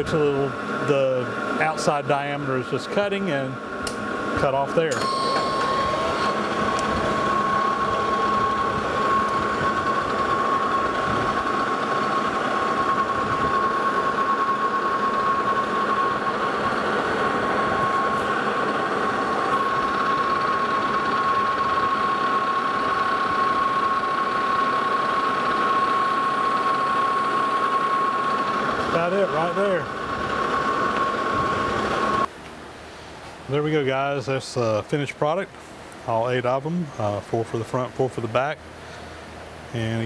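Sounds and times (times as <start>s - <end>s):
metal lathe whining: 0.0s - 32.3s.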